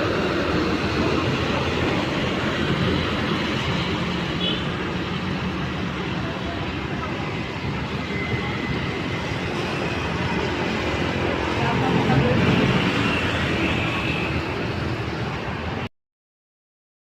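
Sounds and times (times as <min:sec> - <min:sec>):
strong storm wind: 0:00.0 - 0:15.9.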